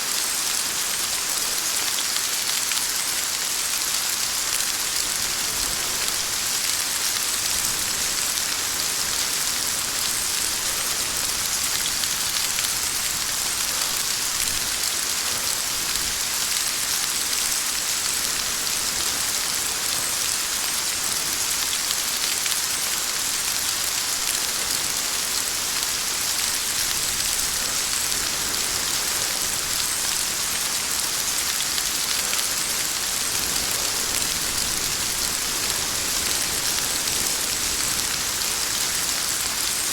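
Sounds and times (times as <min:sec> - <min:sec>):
heavy rain on hard surface: 0:00.0 - 0:39.9.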